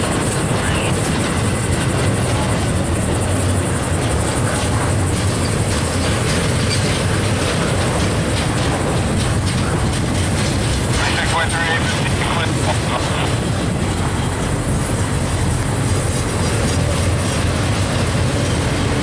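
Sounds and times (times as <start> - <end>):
freight train wheels rumbling: 0.0 - 19.0
faint rail clicks: 0.1 - 19.0.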